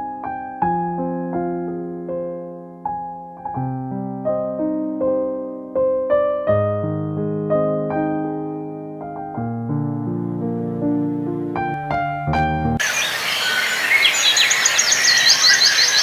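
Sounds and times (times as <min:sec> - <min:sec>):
slow piano music: 0:00.0 - 0:13.3.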